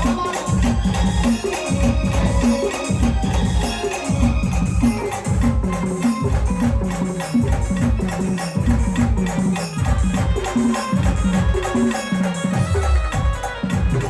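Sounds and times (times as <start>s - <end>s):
heavy drum beats: 0.0s - 14.0s.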